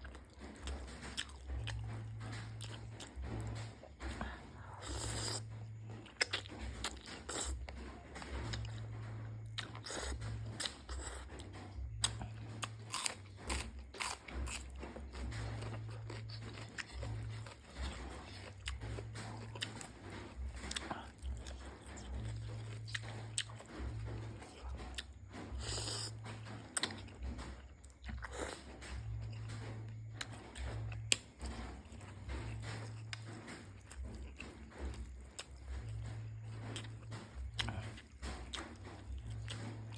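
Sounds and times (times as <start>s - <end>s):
person chewing and biting food: 0.0s - 39.9s.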